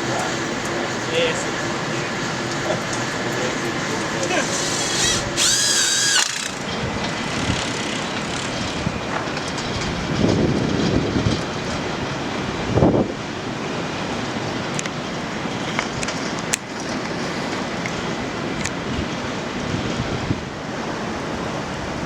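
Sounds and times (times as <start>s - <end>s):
heavy surf breaking: 0.0s - 22.0s
wind: 0.0s - 22.0s.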